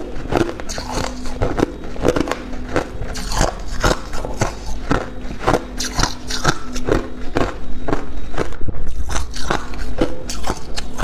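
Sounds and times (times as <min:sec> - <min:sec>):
ice crunching while chewed: 0:00.0 - 0:11.0.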